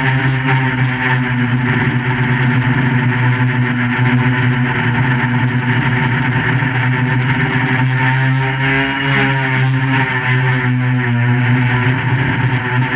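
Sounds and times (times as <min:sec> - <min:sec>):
quadcopter propellers buzzing: 0:00.0 - 0:12.9.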